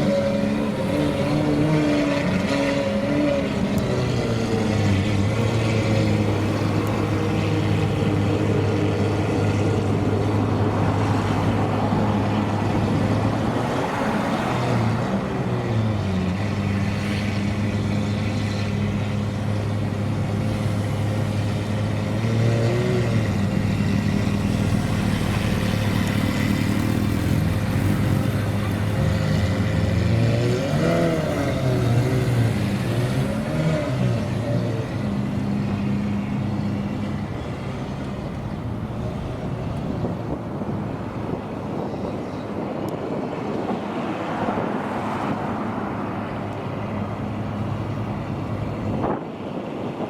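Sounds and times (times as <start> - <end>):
car engines idling and revving: 0.0 - 50.0.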